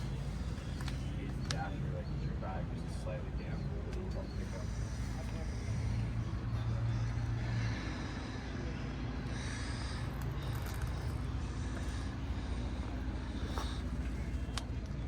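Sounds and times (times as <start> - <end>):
outdoor background noise: 0.0 - 15.0
vehicle engine humming: 0.0 - 15.0.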